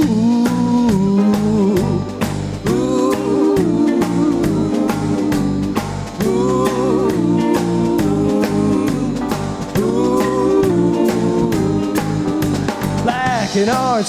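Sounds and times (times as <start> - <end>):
live rock band playing: 0.9 - 14.0.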